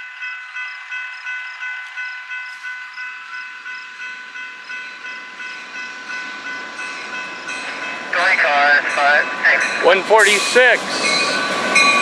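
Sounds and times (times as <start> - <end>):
crossing bell ringing: 0.0 - 12.0
train rumble: 0.0 - 12.0.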